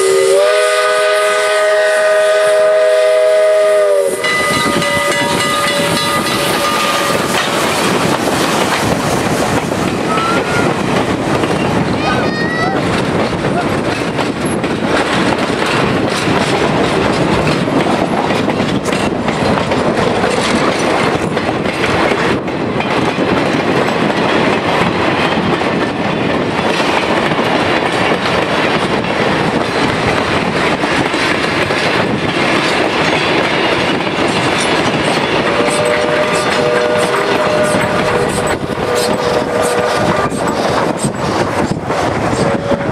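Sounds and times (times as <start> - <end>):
train wheels clattering over rail joints: 4.2 - 42.9.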